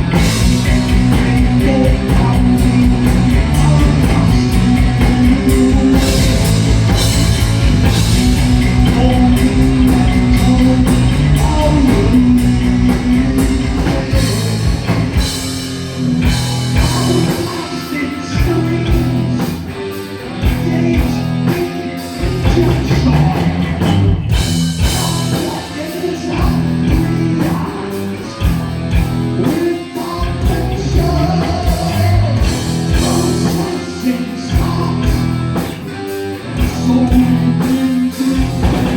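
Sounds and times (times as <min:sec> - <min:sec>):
heavy metal band playing live: 0:00.0 - 0:38.9
sung vocals: 0:00.0 - 0:38.9.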